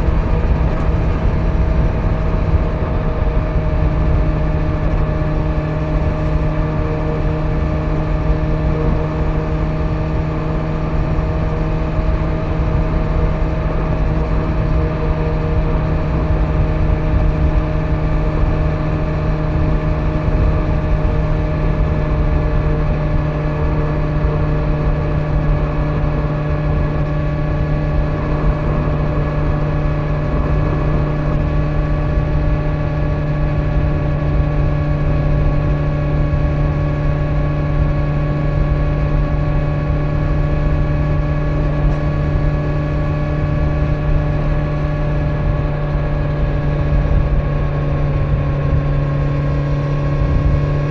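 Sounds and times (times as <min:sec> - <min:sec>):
motorcycle engine cruising: 0:00.0 - 0:50.9
road noise: 0:00.0 - 0:50.9
wind noise: 0:00.0 - 0:50.9.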